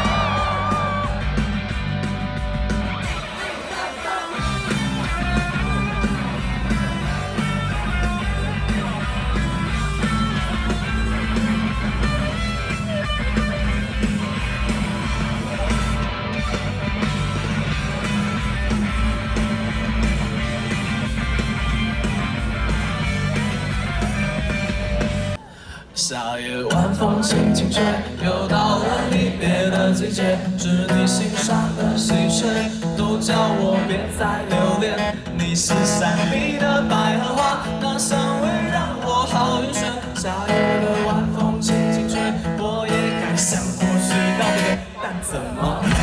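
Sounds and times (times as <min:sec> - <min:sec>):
electric guitar: 0:00.0 - 0:25.4, 0:26.8 - 0:45.0
rock band playing: 0:00.0 - 0:25.4, 0:27.4 - 0:44.8, 0:45.8 - 0:46.0.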